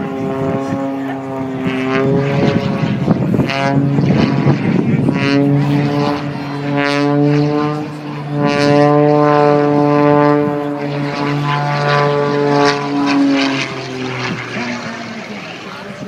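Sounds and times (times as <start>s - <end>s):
propeller airplane engine droning: 0.0s - 16.0s.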